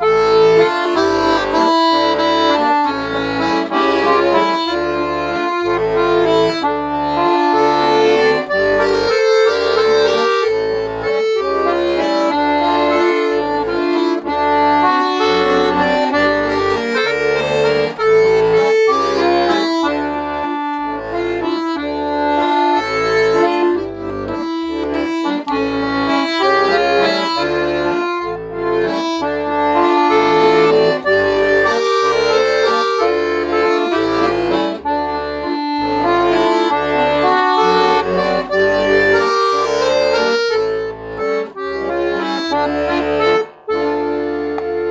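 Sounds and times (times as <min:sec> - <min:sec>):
lively accordion music: 0:00.0 - 0:44.9.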